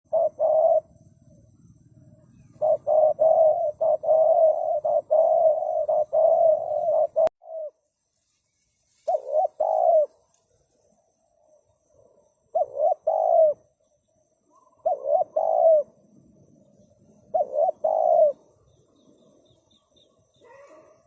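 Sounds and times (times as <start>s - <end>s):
dove cooing: 0.0s - 7.8s, 9.1s - 10.3s, 11.5s - 13.7s, 14.4s - 21.0s.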